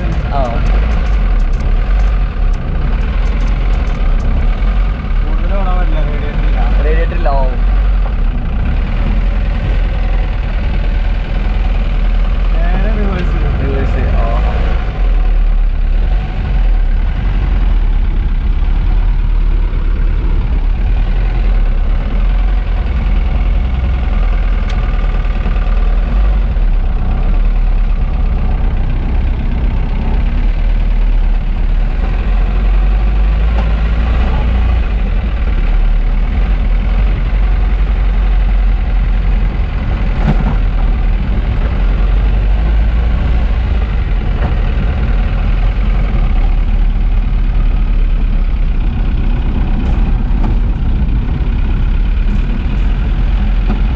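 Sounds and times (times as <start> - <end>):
car engine running at low revs: 0.0 - 53.9.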